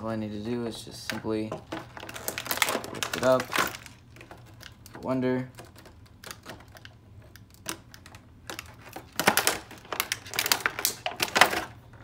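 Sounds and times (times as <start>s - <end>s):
scissors cutting plastic: 1.1s - 11.7s.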